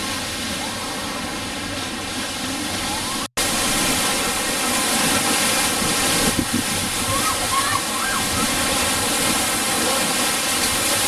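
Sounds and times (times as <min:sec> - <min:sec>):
surf churning and breaking: 0:00.0 - 0:11.0.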